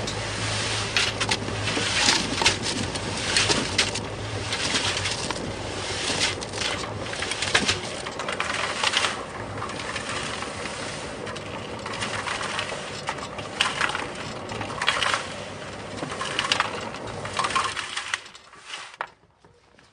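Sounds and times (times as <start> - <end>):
wet concrete churning and pouring: 0.0 - 19.1
concrete mixer running: 0.0 - 19.9.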